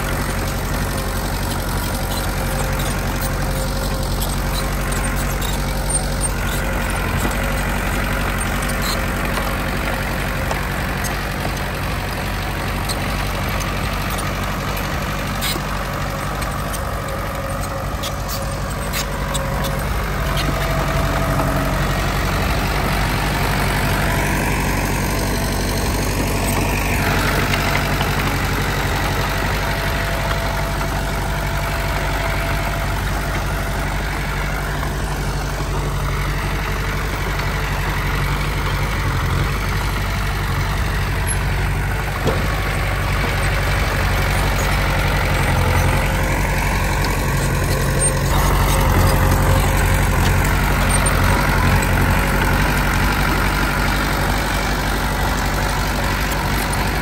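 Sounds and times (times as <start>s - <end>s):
heavy machine engine running: 0.0s - 57.0s.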